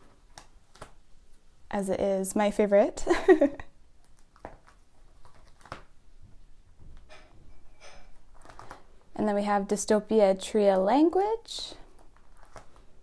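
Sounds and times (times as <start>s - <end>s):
plastic sleeves rustling: 0.0s - 1.8s, 3.3s - 13.0s.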